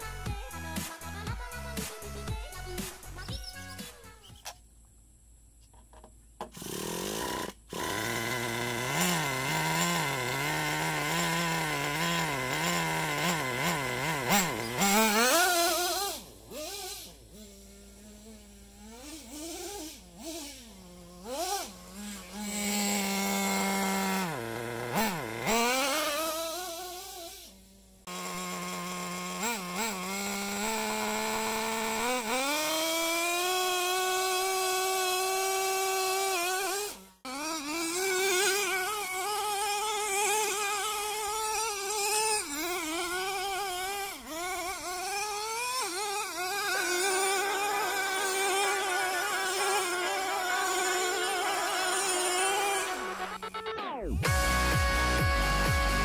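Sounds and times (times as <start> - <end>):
model truck engine revving: 6.4 - 56.0.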